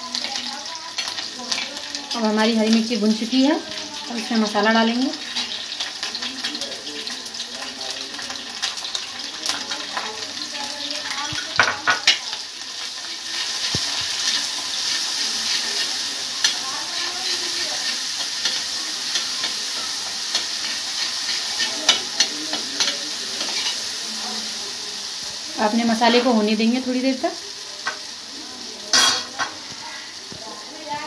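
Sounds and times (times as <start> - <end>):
spices sizzling in hot oil: 0.0 - 31.0.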